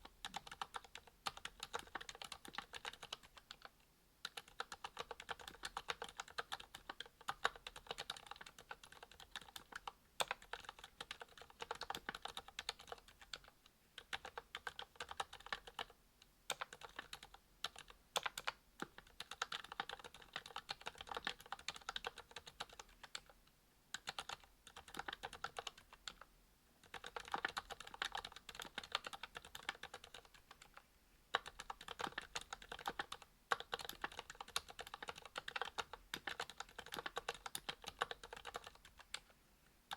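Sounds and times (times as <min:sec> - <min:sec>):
mechanical keyboard typing: 0:00.0 - 0:39.3.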